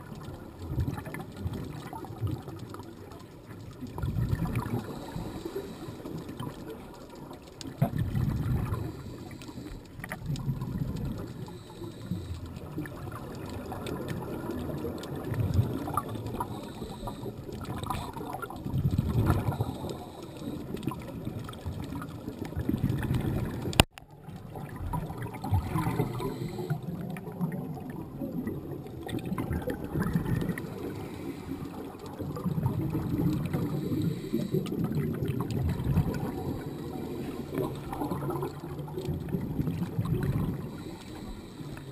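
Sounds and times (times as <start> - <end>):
underwater bubbles gurgling: 0.0 - 41.9.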